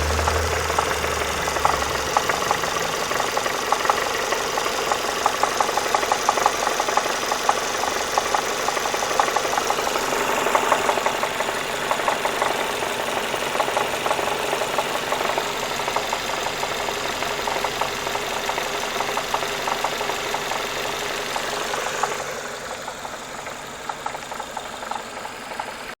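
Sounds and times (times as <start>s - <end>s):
car engine knocking: 0.0s - 26.0s.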